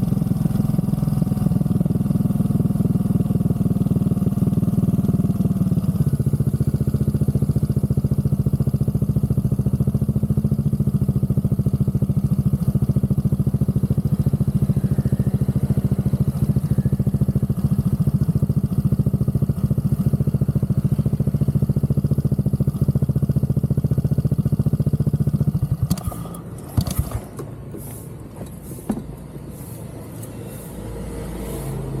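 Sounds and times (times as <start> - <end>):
scooter engine idling: 0.0 - 32.0.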